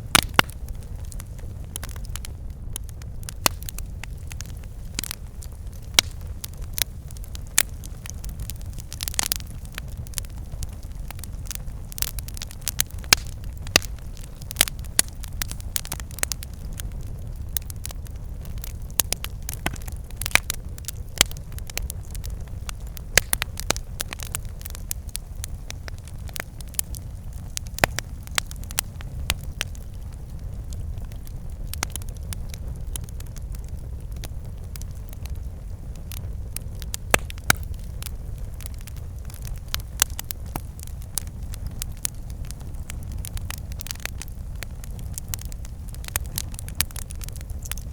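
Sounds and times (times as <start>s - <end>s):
firewood snapping and popping: 0.0s - 47.9s
low fire rumble: 0.0s - 47.9s.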